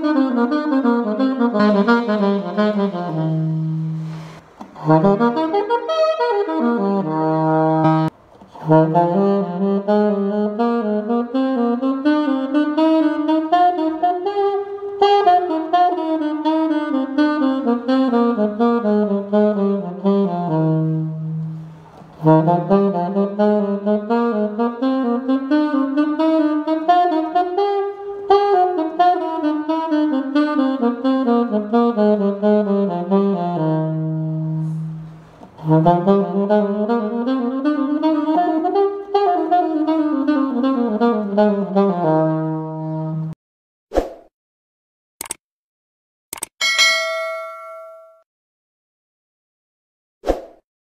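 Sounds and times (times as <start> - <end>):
alto saxophone playing scales: 0.0 - 43.4.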